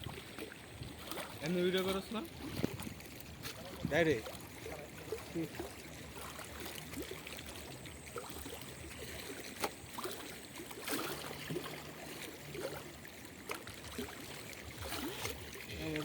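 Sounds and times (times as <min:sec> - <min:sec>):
river water trickling: 0:00.0 - 0:16.0.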